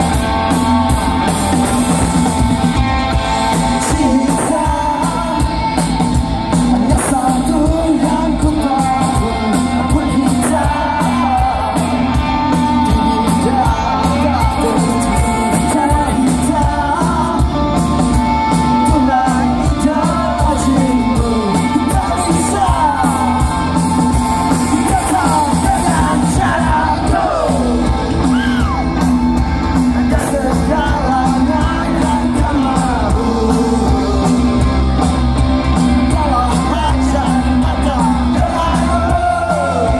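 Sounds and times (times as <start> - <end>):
crowd shouting and whooping: 0.0 - 39.9
live rock band with singer: 0.0 - 39.9.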